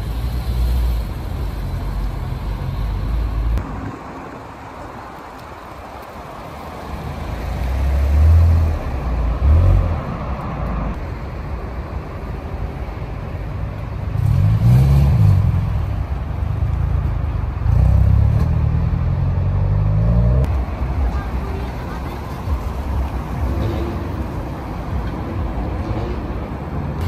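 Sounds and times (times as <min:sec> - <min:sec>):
car engines moving off: 0:00.0 - 0:27.0.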